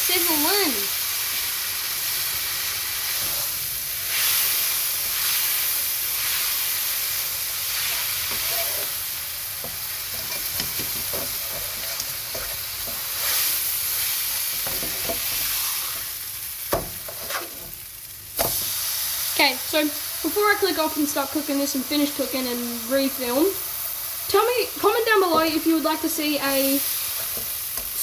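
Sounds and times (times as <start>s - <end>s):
steak sizzling in a frying pan: 0.0s - 28.0s.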